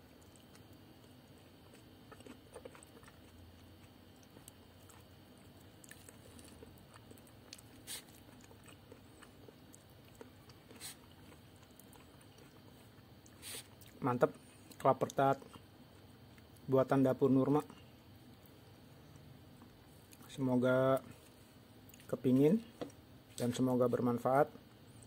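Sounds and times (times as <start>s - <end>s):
faint chewing: 0.0s - 16.7s, 17.4s - 20.4s, 21.0s - 23.6s.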